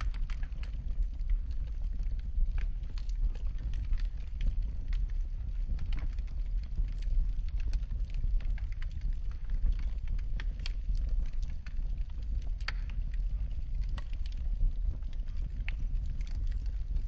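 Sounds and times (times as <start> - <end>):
fire crackling and popping: 0.0 - 17.0
fire low rumble: 0.0 - 17.0.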